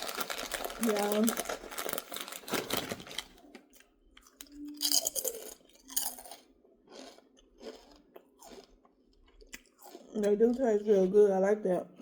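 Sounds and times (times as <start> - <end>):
crunching potato chips: 0.0 - 11.0.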